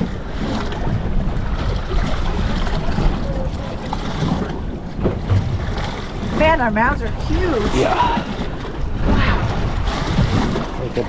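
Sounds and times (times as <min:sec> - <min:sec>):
choppy sea washing around boat: 0:00.0 - 0:11.0
wind buffeting microphone: 0:00.0 - 0:11.0.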